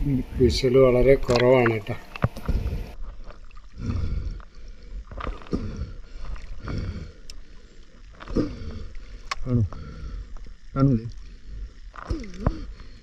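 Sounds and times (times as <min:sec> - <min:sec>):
muffled water sloshing and gurgling: 0:00.0 - 0:13.0
water splashing: 0:00.0 - 0:13.0.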